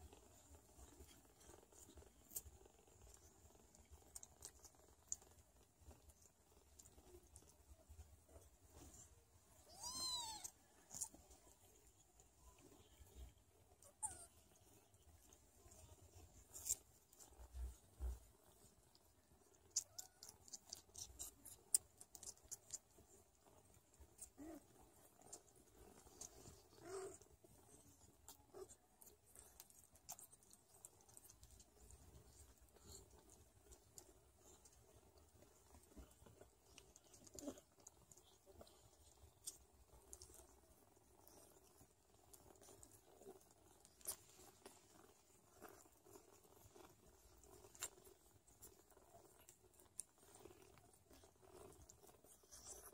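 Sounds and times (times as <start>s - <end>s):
cat licking clicks and rustles: 0.0s - 9.6s, 10.4s - 52.9s.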